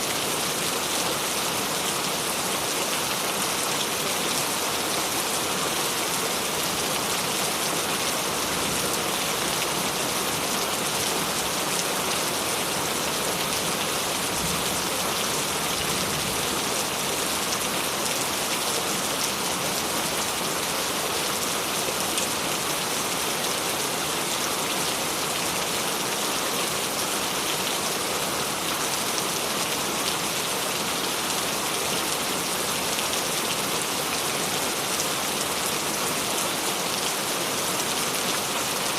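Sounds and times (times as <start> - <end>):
rain pattering on surface: 0.0 - 38.9.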